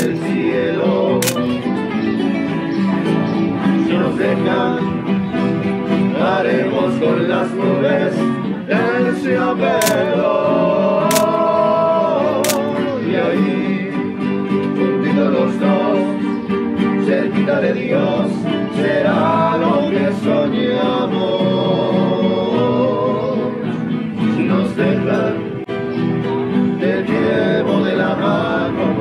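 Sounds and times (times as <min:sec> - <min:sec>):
song with plucked guitar: 0:00.0 - 0:29.0.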